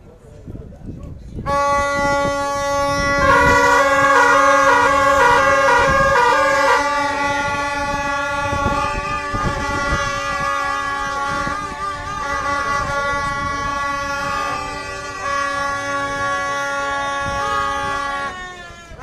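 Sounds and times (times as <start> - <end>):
horn holding long note: 1.5 - 19.0
horn switching between two pitches: 1.5 - 19.0.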